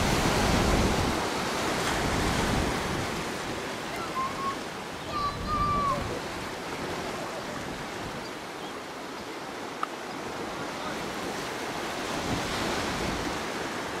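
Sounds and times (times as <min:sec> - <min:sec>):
waves washing on rocky shore: 0:00.0 - 0:14.0.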